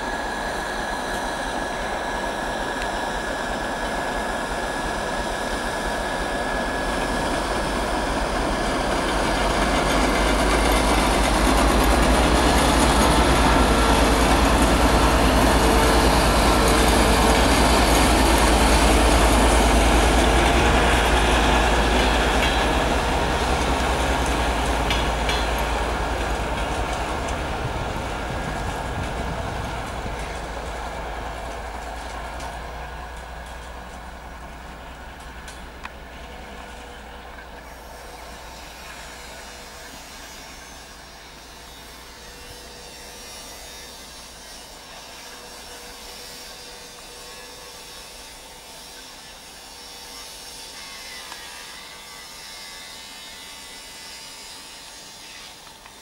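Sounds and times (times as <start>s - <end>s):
diesel locomotive engine under load: 0.0s - 56.0s
train coaches rolling: 0.0s - 56.0s.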